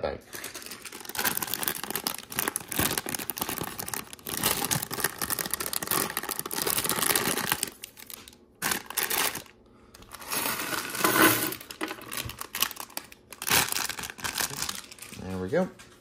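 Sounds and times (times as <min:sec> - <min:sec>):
plastic bags crinkling: 0:00.3 - 0:15.6.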